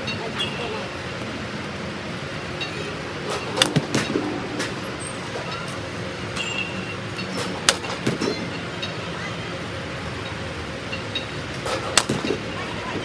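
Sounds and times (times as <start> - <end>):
steady traffic hum: 0.0 - 13.0.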